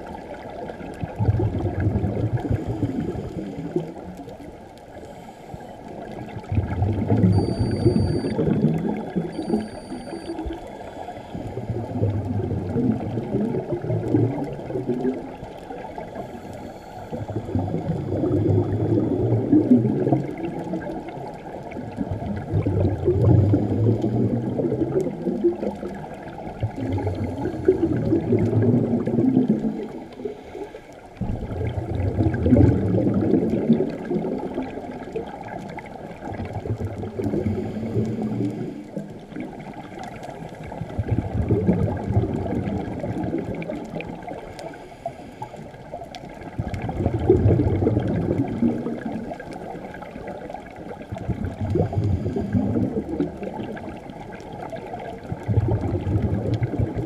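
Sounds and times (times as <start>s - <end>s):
underwater regulator bubbling exhalations: 1.0s - 4.1s, 6.1s - 10.6s, 11.3s - 30.4s, 31.2s - 44.8s, 46.4s - 57.0s.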